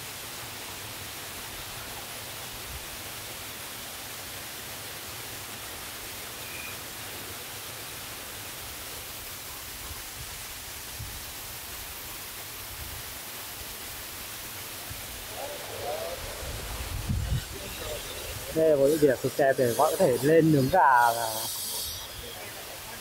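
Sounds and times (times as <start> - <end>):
waterfall and stream rushing: 0.0 - 23.0.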